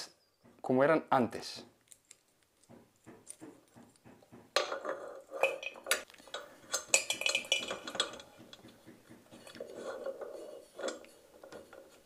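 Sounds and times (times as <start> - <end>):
plastic parts clicking and rattling: 1.8 - 12.0.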